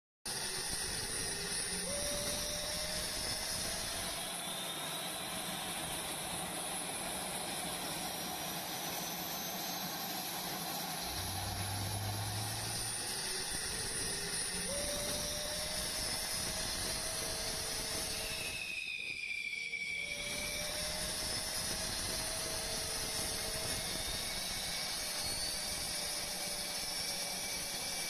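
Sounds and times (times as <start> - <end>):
jet engine hiss and whine: 0.3 - 28.0
low drone: 0.3 - 28.0.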